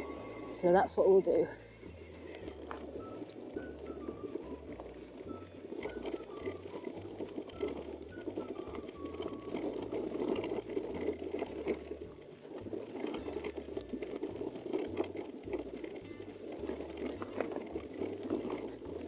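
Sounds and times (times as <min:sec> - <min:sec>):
bike rattling: 0:00.0 - 0:19.0
bike tyres crunching gravel: 0:00.0 - 0:19.0.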